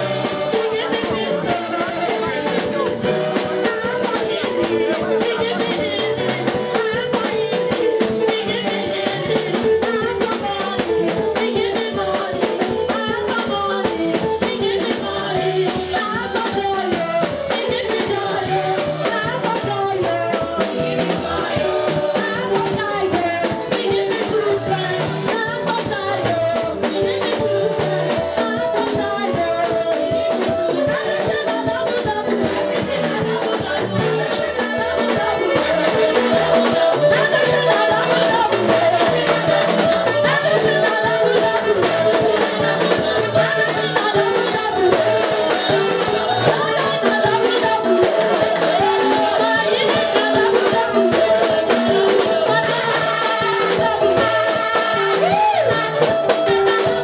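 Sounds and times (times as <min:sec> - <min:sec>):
drums and percussion: 0:00.0 - 0:57.0
worship music singing: 0:00.0 - 0:57.0.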